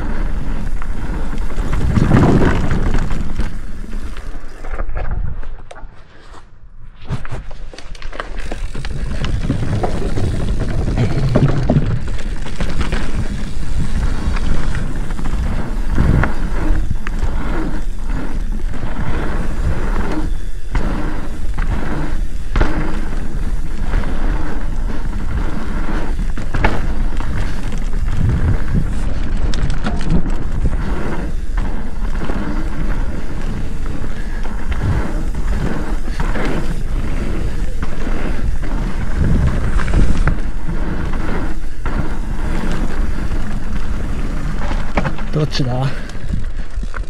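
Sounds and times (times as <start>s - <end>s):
bike knocking and rattling: 0.0s - 6.0s, 7.2s - 47.0s
bike tyres rumbling on dirt: 0.0s - 47.0s.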